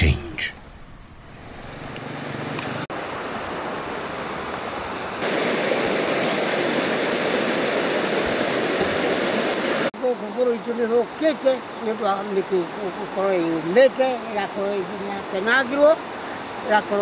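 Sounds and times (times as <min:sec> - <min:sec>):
river rapids rushing: 0:03.0 - 0:17.0.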